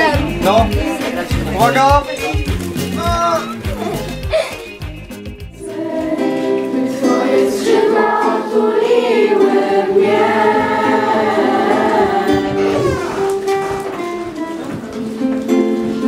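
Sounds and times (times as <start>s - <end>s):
group of voices singing: 0.0s - 13.8s
strummed acoustic guitar: 0.0s - 16.0s.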